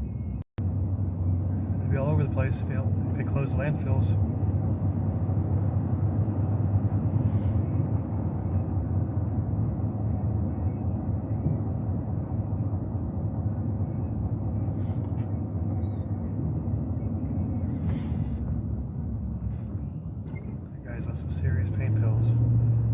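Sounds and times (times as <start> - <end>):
truck engine rumble inside cab: 0.0 - 22.9.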